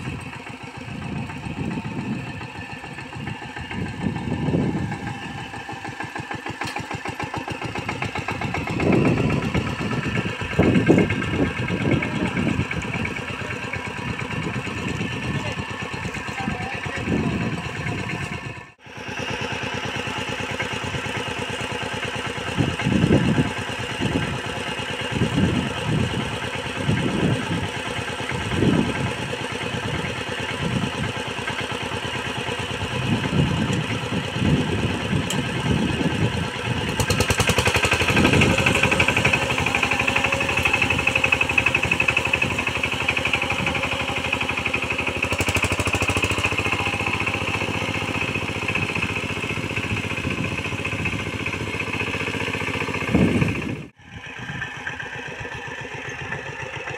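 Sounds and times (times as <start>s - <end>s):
diesel tiller engine running: 0.0s - 56.9s.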